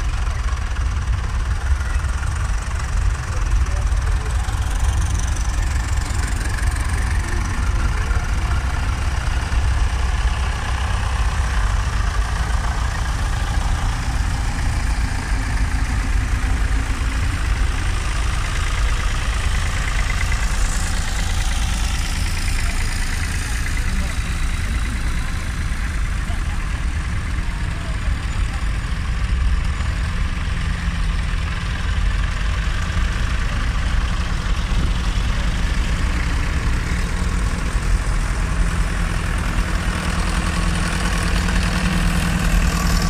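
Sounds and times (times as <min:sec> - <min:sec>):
crowd chattering: 0:00.0 - 0:43.0
tractor engines running at low revs: 0:00.0 - 0:43.0.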